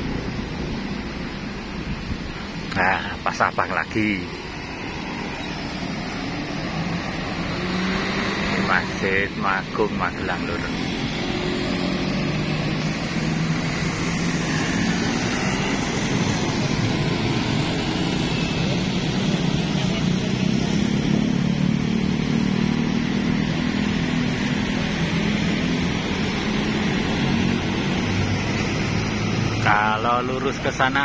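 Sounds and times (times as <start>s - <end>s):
cars passing: 0.0s - 31.0s
low engine hum: 0.0s - 31.0s
motorcycles passing: 0.0s - 31.0s.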